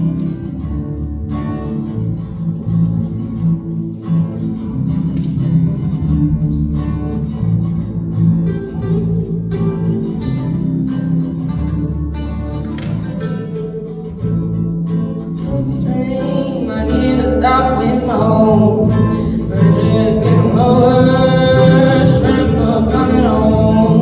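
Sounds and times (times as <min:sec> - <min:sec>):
bass notes: 0:00.0 - 0:24.0
plucked guitar: 0:00.0 - 0:24.0.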